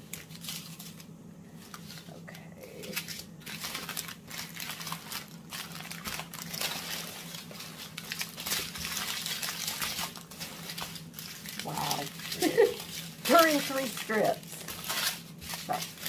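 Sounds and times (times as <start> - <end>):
plastic bags crinkling: 0.0 - 16.0
small beads rattling in bags: 1.8 - 16.0.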